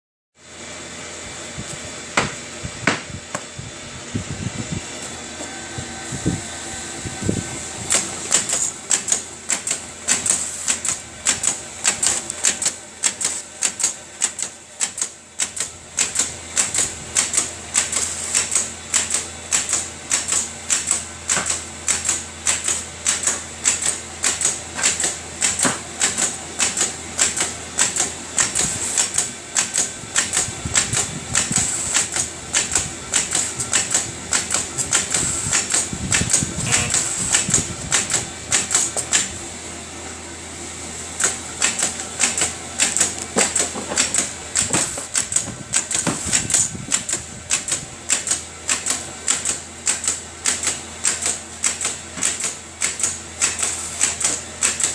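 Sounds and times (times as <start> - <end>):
steady motor hum: 0.4 - 54.9
tape machine clacking: 5.1 - 39.4, 41.2 - 54.9.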